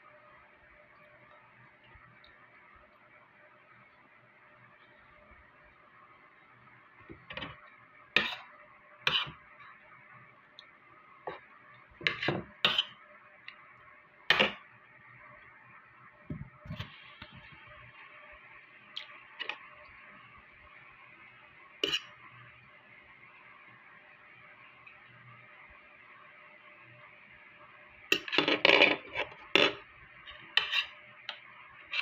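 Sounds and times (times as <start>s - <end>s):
faint background hum: 0.0s - 32.0s.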